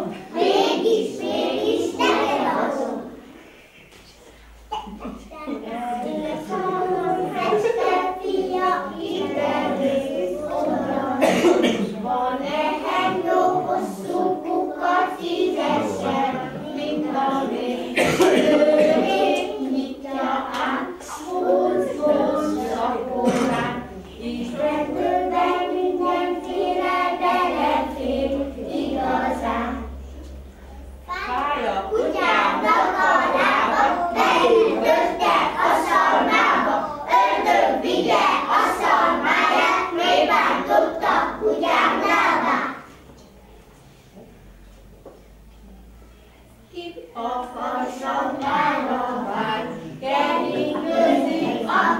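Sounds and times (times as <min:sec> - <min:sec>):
children singing together: 0:00.0 - 0:03.9, 0:04.7 - 0:30.9, 0:31.9 - 0:43.2, 0:47.0 - 0:51.9.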